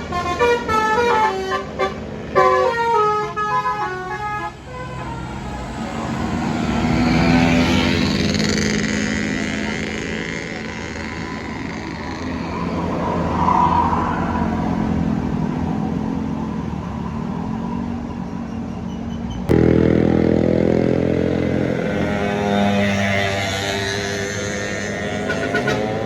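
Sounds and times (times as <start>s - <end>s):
bus engines passing: 0.0s - 26.0s.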